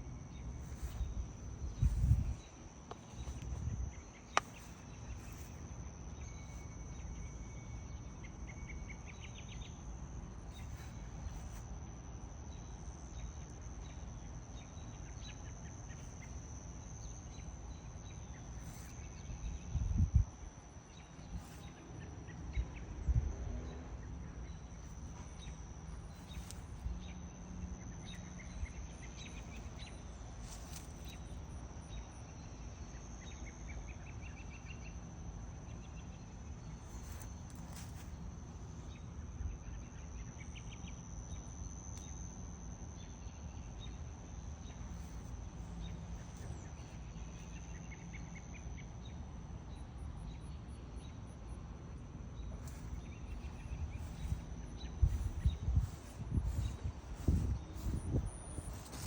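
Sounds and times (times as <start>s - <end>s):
insect trills: 0.0s - 59.0s
insects chirring: 0.0s - 59.0s.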